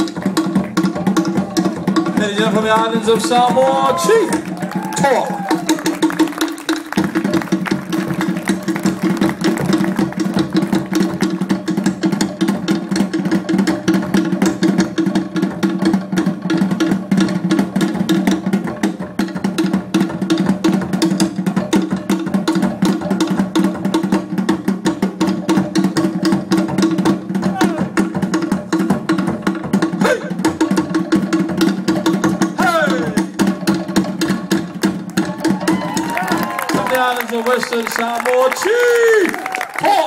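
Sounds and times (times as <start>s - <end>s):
fast drumming: 0.0s - 40.0s.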